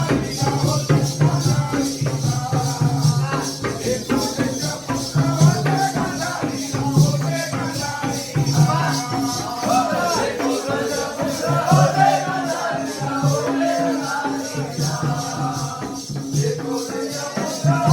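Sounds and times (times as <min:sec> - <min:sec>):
drum beat: 0:00.0 - 0:17.9
jingling metal percussion: 0:00.0 - 0:17.9.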